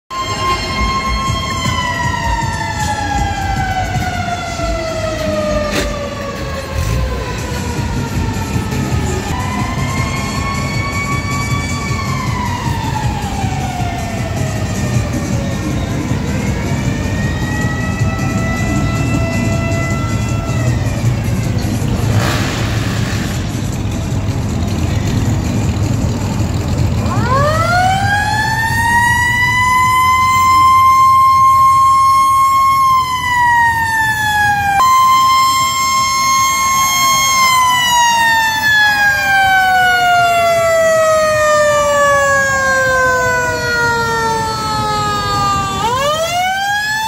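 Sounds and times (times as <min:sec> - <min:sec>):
siren wailing: 0:00.1 - 0:22.3, 0:24.5 - 0:47.0
low rumble of engines: 0:00.1 - 0:47.0.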